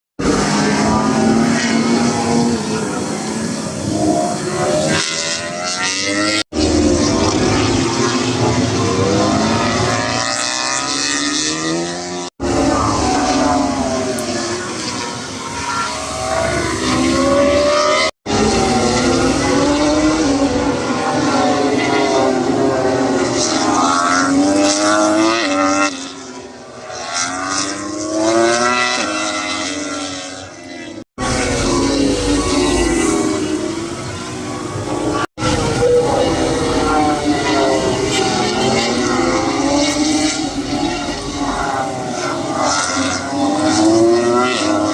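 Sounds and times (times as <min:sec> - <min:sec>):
race motorcycles passing: 0:00.2 - 0:44.9.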